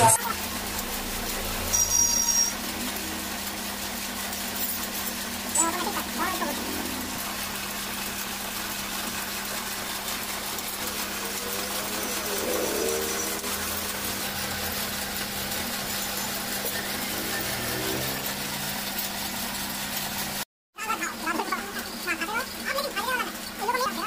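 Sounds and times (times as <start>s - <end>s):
metal lathe humming: 0.0s - 20.4s.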